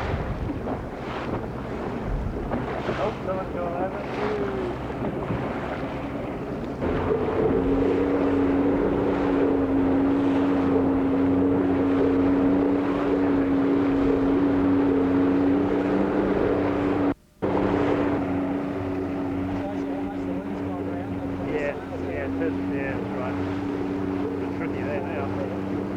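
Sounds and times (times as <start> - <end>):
motorboat engine running: 0.0 - 25.9
water noise: 0.0 - 25.9
wind: 0.0 - 25.9.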